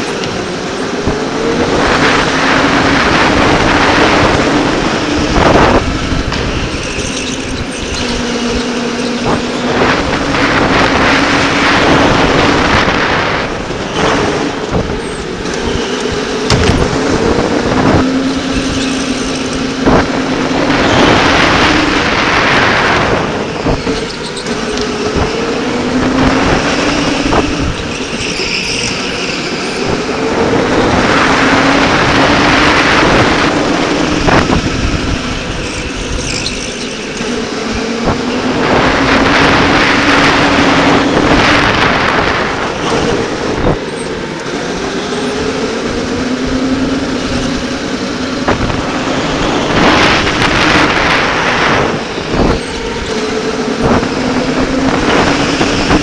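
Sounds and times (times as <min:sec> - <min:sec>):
electric go-kart motor whine: 0:00.0 - 0:56.0
rushing noise: 0:00.0 - 0:56.0.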